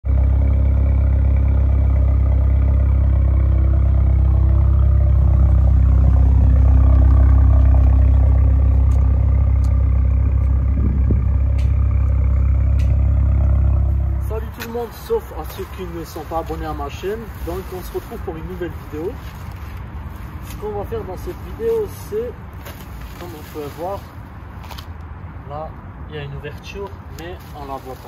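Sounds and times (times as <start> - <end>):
car engine idling: 0.0 - 24.6.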